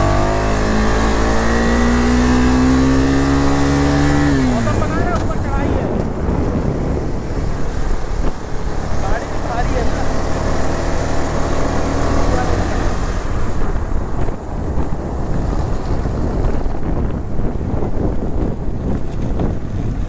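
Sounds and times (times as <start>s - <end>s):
motorcycle engine running: 0.0s - 20.0s
wind rush on microphone: 0.0s - 20.0s.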